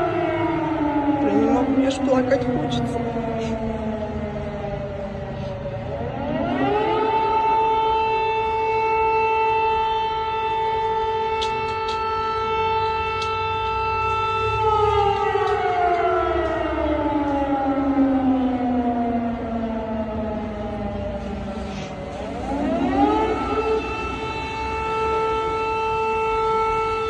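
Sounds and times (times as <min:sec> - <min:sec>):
air-raid siren wailing: 0:00.0 - 0:27.0.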